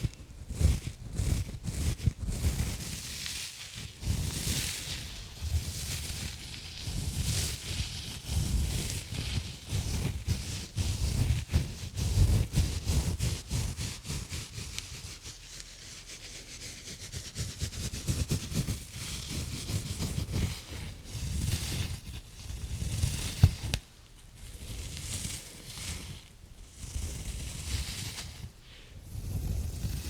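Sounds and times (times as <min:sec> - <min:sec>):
gloves scrubbing near microphone: 0:00.0 - 0:23.8, 0:24.6 - 0:30.0.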